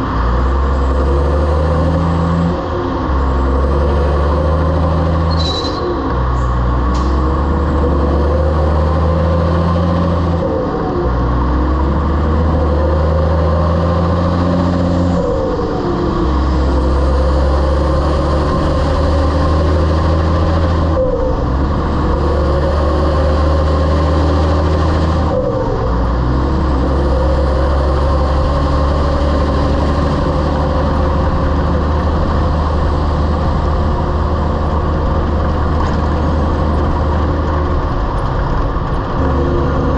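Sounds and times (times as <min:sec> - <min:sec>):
truck diesel engine shifting gears: 0:00.0 - 0:39.9.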